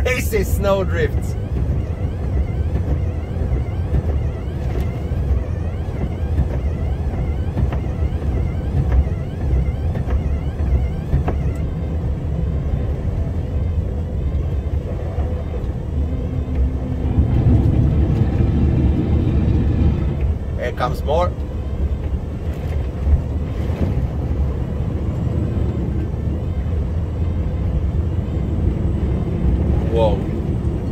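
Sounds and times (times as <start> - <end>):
diesel truck engine rumble: 0.0 - 30.9.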